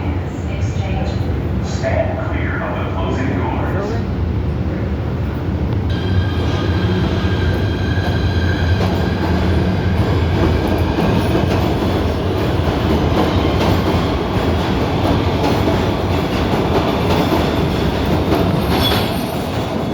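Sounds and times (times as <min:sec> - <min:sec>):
subway train wheels rumbling: 0:00.0 - 0:19.9.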